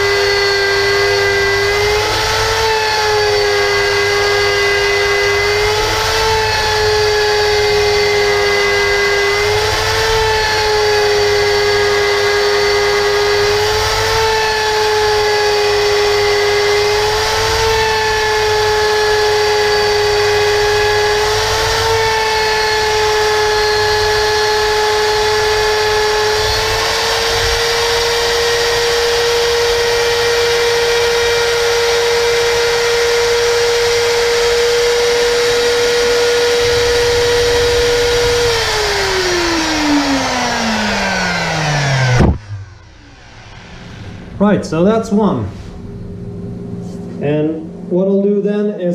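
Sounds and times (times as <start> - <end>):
router motor high whine: 0.0 - 47.8.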